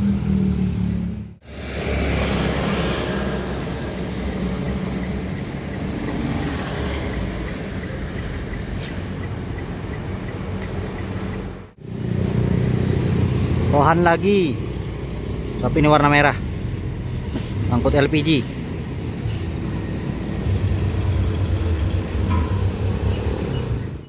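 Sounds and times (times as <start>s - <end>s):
loud engine: 0.0s - 8.1s, 11.8s - 24.0s
road traffic: 0.0s - 24.0s
truck diesel engine running: 0.0s - 24.0s.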